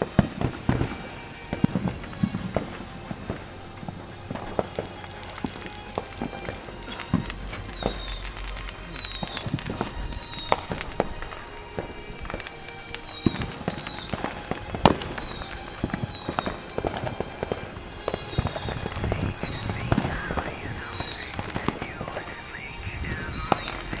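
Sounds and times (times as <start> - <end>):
crackle of small pops: 0.0 - 24.0
whistling fireworks: 0.0 - 24.0.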